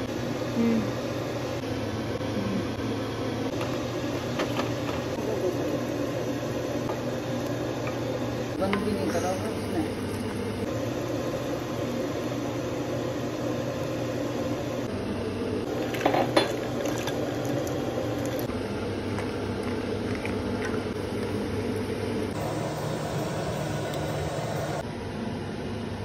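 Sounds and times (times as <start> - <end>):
kitchen hum and hiss: 0.0 - 26.0.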